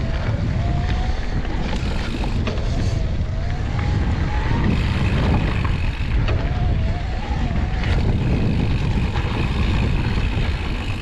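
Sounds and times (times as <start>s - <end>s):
electric bike motor whining: 0.0s - 11.0s
tyres on dirt trail: 0.0s - 11.0s
wind rumble on microphone: 0.0s - 11.0s.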